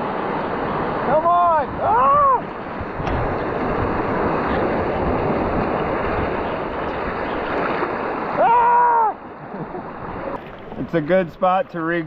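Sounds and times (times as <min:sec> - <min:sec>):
wind rumbling on microphone: 0:00.0 - 0:11.3
river rapids rushing: 0:00.0 - 0:11.5.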